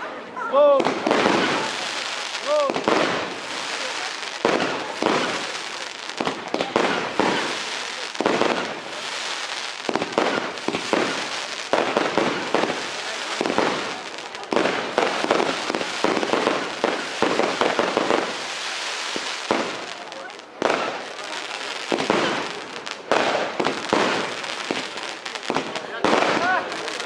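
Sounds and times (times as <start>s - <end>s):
fireworks shots and bursts: 0.8s - 27.0s.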